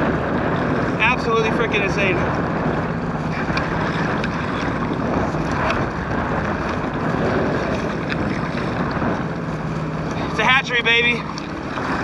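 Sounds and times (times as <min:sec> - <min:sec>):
water lapping: 0:00.0 - 0:12.0
wind buffeting microphone: 0:00.0 - 0:12.0.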